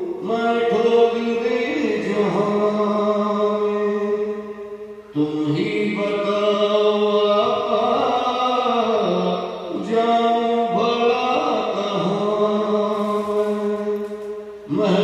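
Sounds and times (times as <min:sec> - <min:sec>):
slow vocal chanting: 0:00.0 - 0:15.0.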